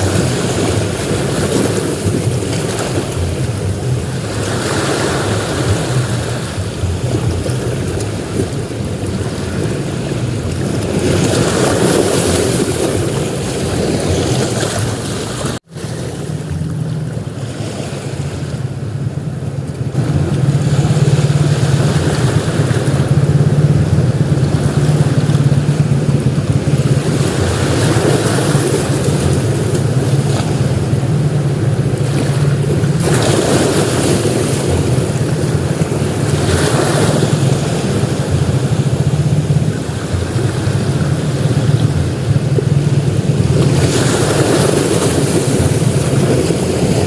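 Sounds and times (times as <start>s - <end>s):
sea waves breaking on beach: 0.0s - 47.0s.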